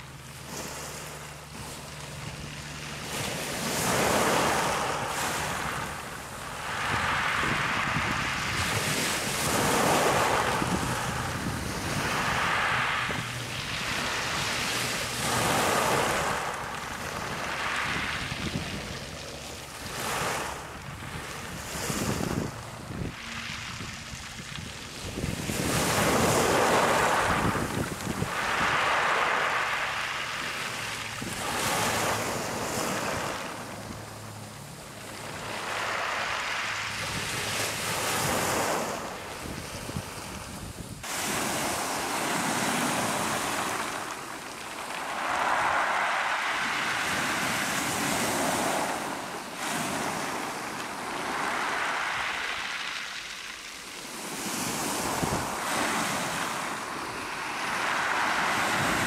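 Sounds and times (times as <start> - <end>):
small waves on pebble beach: 0.0 - 59.0.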